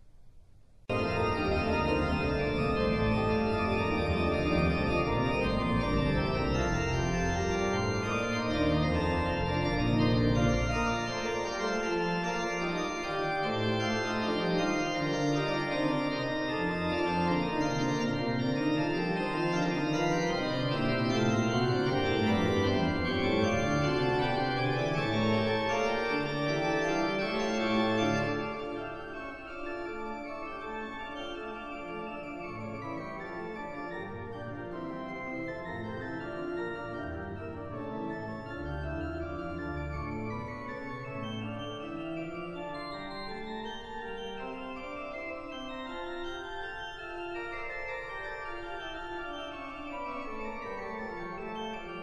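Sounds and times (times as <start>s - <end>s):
organ playing sustained chords: 0.9s - 52.0s.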